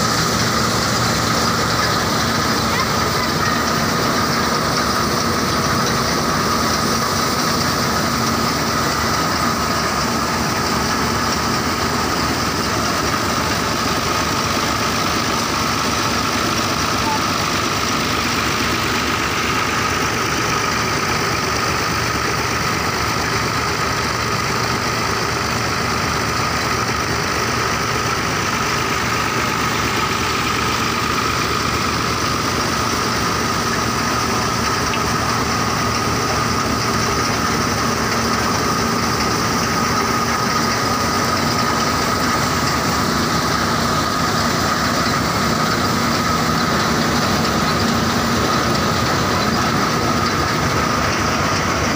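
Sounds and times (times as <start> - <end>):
high machinery whine: 0.0 - 51.9
tractor diesel engine running: 0.0 - 51.9.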